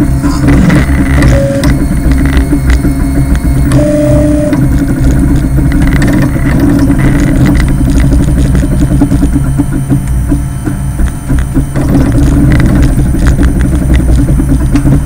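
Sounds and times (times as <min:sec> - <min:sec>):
print head clicks and rattles: 0:00.0 - 0:15.0
stepper motors humming: 0:00.0 - 0:15.0.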